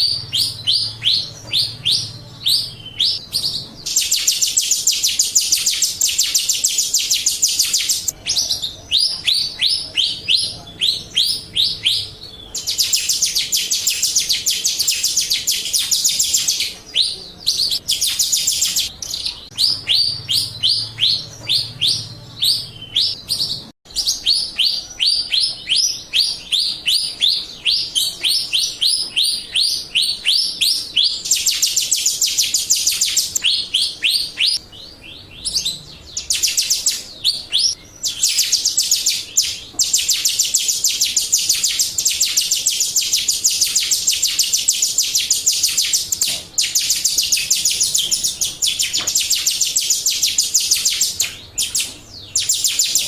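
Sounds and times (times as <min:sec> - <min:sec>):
starling whistling and trilling: 0:00.0 - 0:53.0.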